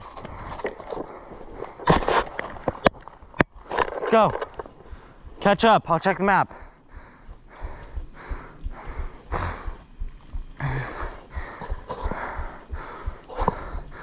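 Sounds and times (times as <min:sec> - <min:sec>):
heavy rhythmic breathing: 0:00.0 - 0:02.1, 0:04.5 - 0:14.0.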